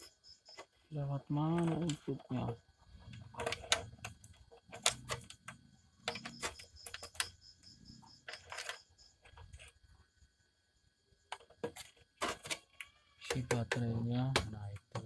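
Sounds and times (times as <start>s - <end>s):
wires and plastic connectors rattling: 0.0s - 7.5s, 8.1s - 9.8s, 11.3s - 15.0s.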